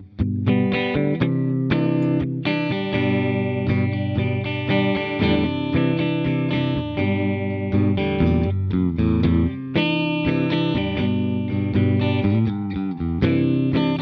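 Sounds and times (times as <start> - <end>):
distorted electric guitar chords: 0.0 - 14.0.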